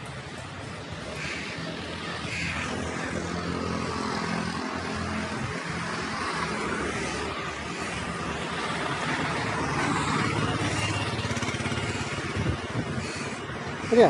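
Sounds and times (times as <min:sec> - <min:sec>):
street traffic hiss: 0:00.0 - 0:14.0.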